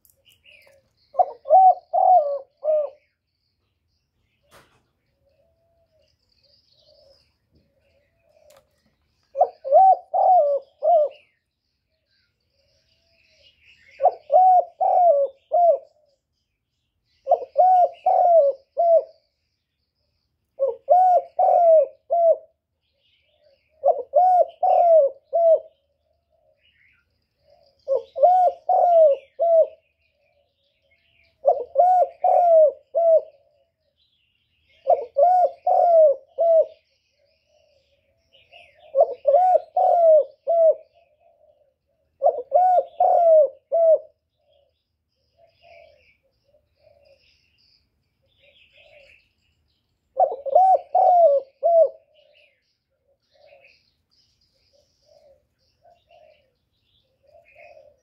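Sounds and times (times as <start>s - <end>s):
dove cooing: 0.1s - 3.2s, 4.4s - 16.2s, 17.1s - 19.3s, 20.6s - 49.3s, 50.2s - 58.0s.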